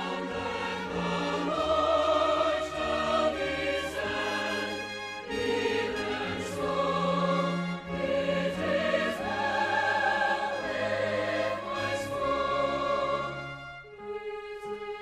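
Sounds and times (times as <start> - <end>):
choral singing: 0.0 - 15.0
orchestral accompaniment: 0.0 - 15.0.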